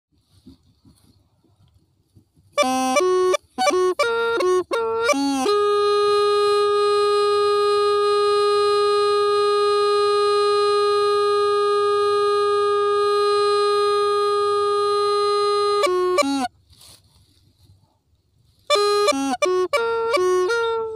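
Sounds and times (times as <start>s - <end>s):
bamboo pipe playing slow melody: 2.5s - 17.4s, 18.4s - 20.9s.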